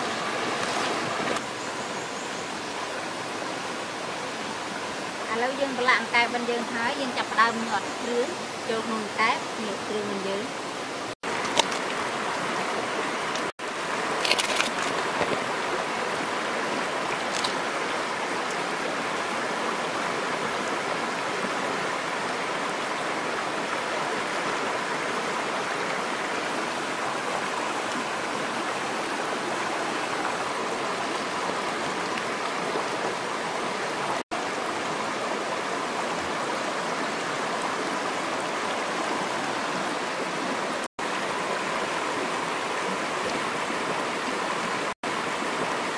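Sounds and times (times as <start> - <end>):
stream splashing over rocks: 0.0 - 1.9, 2.5 - 45.9.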